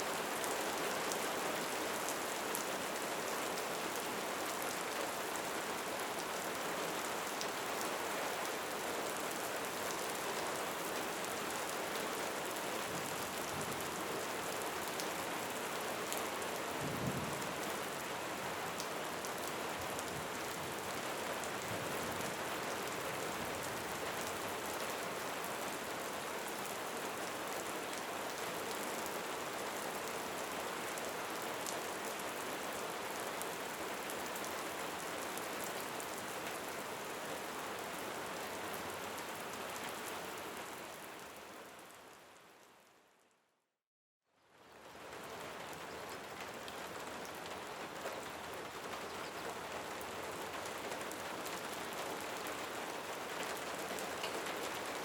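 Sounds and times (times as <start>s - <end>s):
rain pattering on surfaces: 0.1s - 42.9s, 44.5s - 55.0s.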